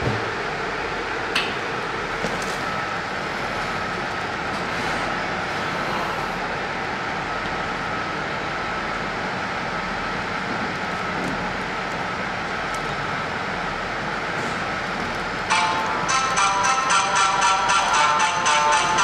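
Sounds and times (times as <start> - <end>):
electric train hum: 0.0 - 19.0.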